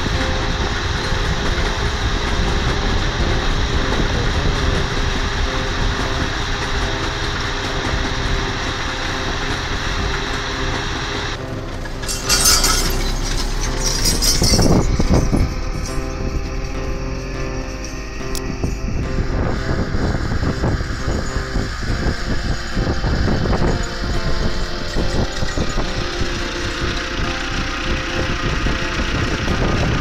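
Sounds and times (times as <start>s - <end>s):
loud hissy rushes: 0.0s - 30.0s
tractor diesel engine running: 0.0s - 30.0s.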